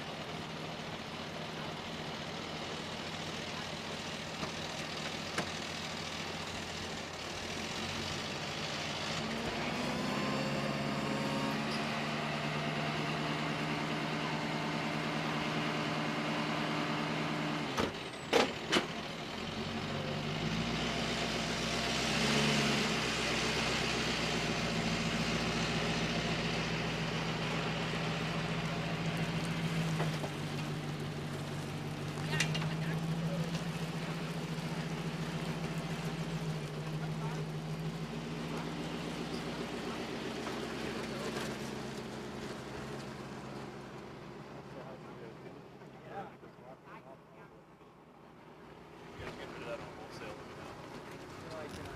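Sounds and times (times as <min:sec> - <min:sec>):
truck engine and winch droning: 0:00.0 - 0:51.9.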